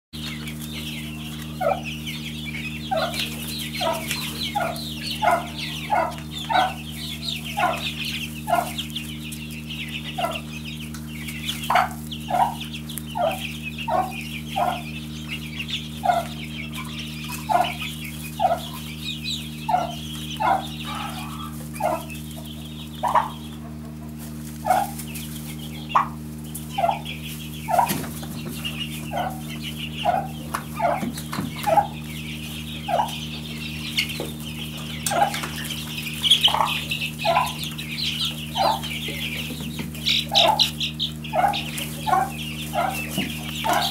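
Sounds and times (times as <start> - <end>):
chicks peeping: 0.2 - 43.9
steady low hum: 0.2 - 43.9.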